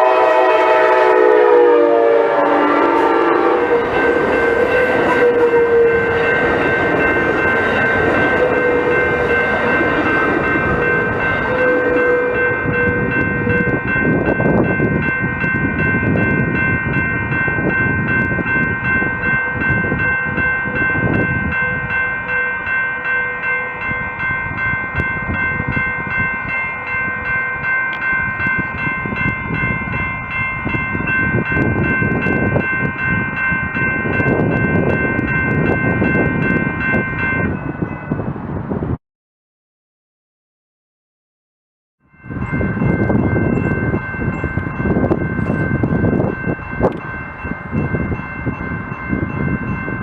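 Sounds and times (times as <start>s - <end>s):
railroad crossing bell ringing: 0.0s - 38.8s, 42.0s - 50.0s
passing train rumble: 0.0s - 39.0s, 42.1s - 50.0s.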